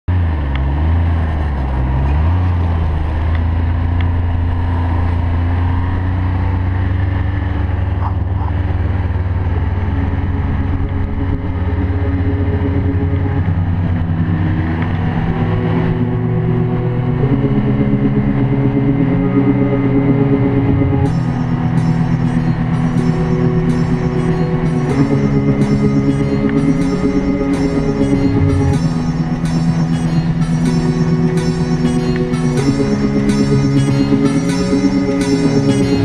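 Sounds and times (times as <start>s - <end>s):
snowmobile engine running: 0.2s - 36.0s.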